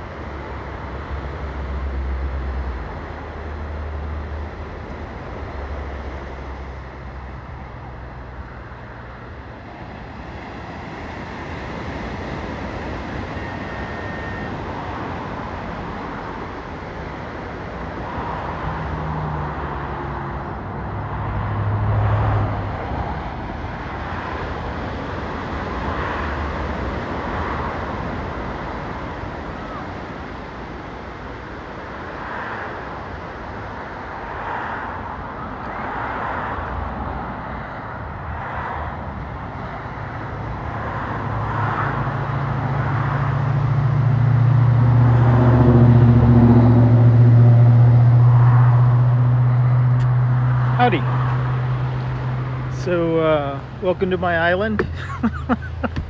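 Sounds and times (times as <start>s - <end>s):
road traffic roar: 0.0s - 56.0s
vehicle engine hum: 0.0s - 56.0s.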